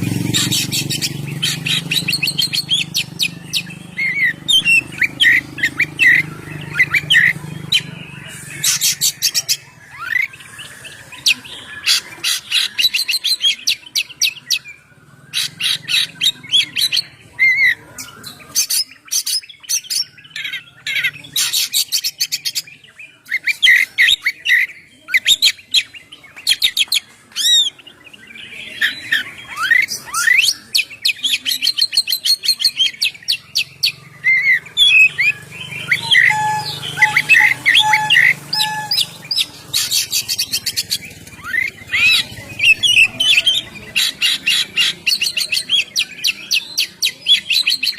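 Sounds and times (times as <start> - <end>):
songbird singing trills and whistles: 0.0 - 47.9.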